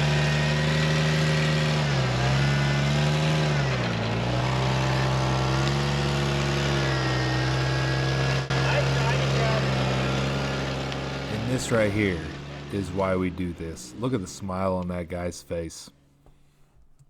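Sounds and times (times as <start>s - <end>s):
off-road vehicle engine revving: 0.0s - 15.1s.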